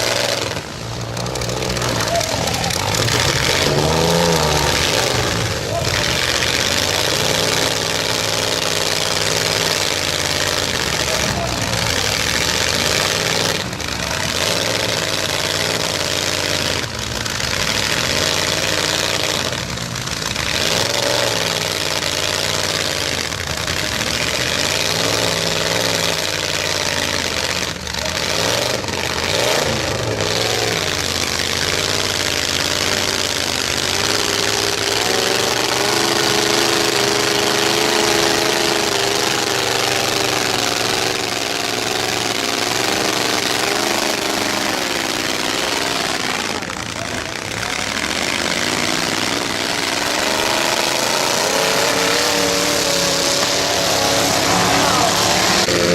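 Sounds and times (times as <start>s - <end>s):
truck engines revving: 0.0s - 55.9s.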